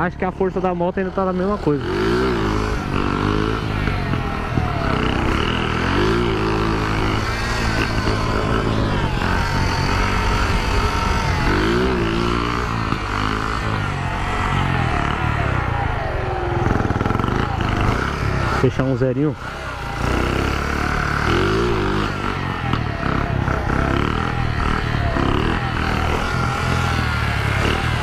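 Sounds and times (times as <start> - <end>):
small motorcycle engine revving: 0.0 - 28.0.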